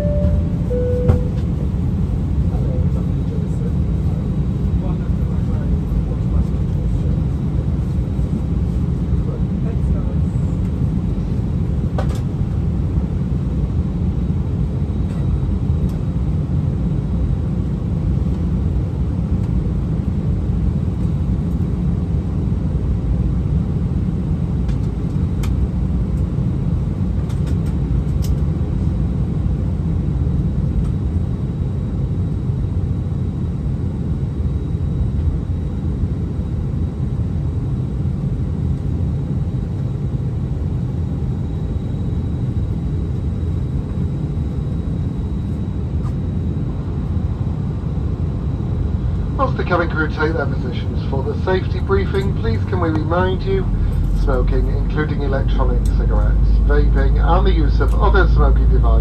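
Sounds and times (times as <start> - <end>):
airliner cabin low rumble: 0.0 - 59.0.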